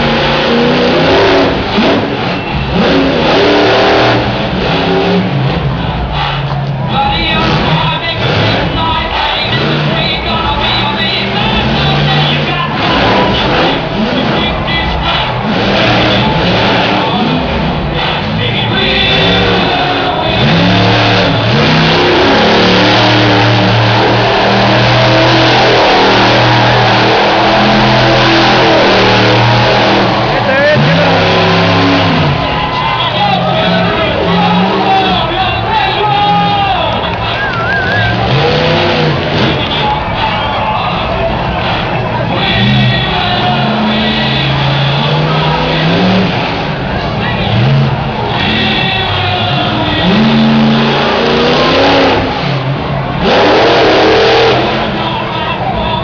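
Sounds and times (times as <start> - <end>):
truck engine revving loudly: 0.0 - 56.0.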